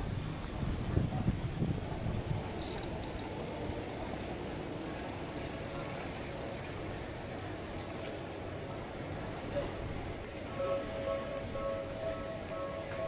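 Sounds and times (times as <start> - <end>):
city street hum and hiss: 0.0 - 13.0.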